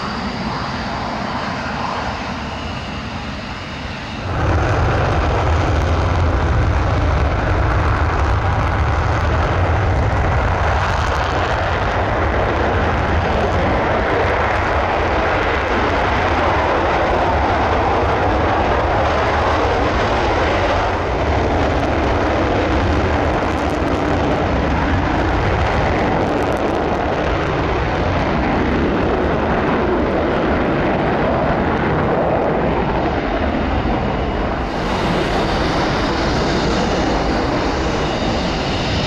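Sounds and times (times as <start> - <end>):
jet afterburner takeoff roar: 0.0 - 39.0
jet engines running at high power: 0.0 - 39.0.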